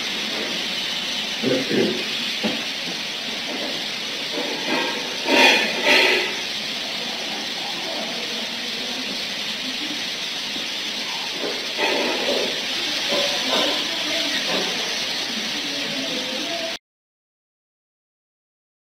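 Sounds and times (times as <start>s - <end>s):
steady hiss: 0.0s - 16.8s.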